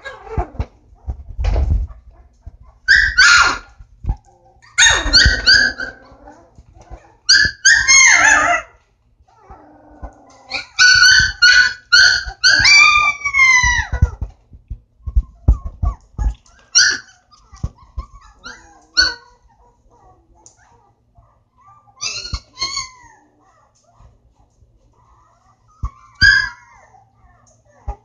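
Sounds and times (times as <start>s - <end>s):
puppies whining and yelping: 0.0s - 28.0s.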